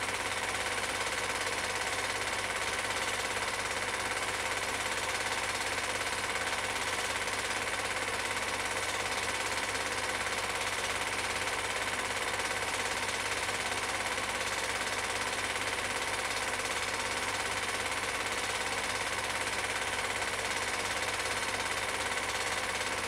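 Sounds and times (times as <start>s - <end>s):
film projector clattering: 0.0s - 23.0s.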